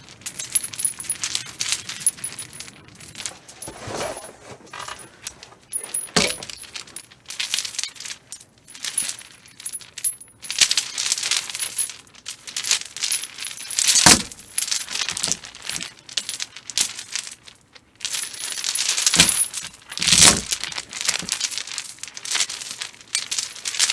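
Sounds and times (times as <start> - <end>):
metal chain rattling and clinking: 0.0 - 23.9.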